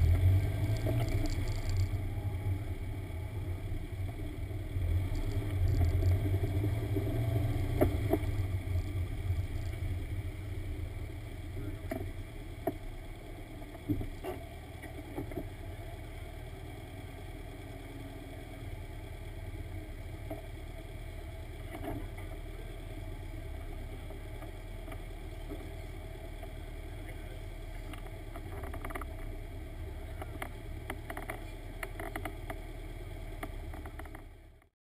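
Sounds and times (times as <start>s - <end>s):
car engine idling: 0.0s - 34.7s.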